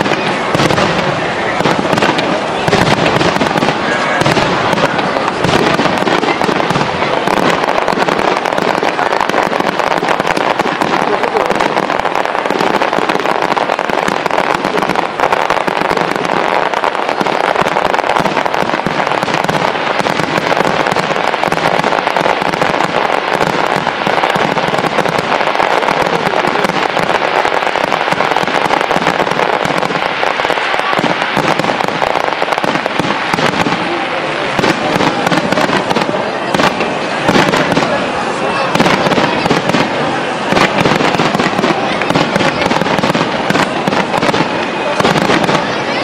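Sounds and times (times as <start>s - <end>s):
crowd voices: 0.0s - 46.0s
fireworks crackling and popping: 0.0s - 46.0s.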